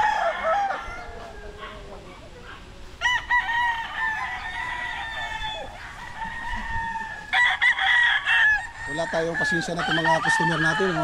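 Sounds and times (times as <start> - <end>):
rooster crowing: 0.0 - 2.0, 3.0 - 11.0.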